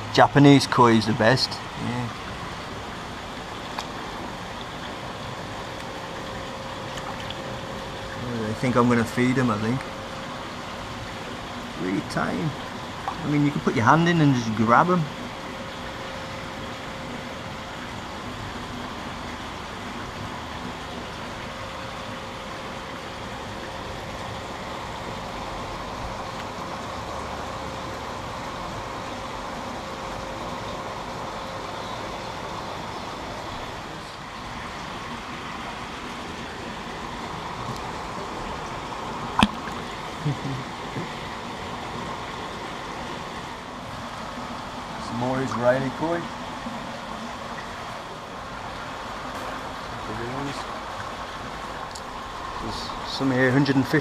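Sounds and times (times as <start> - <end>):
faint hum: 0.0 - 54.0
water circulating through pump: 0.0 - 54.0.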